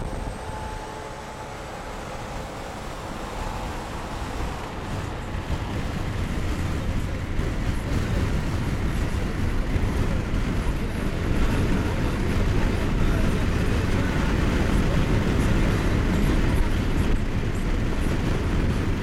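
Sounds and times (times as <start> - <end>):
tyre and wind rumble inside car: 0.0 - 19.0.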